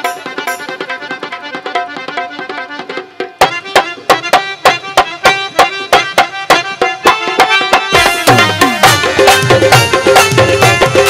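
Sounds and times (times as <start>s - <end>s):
hand drums driving beat: 0.0s - 11.0s
harmonium melody: 0.0s - 11.0s.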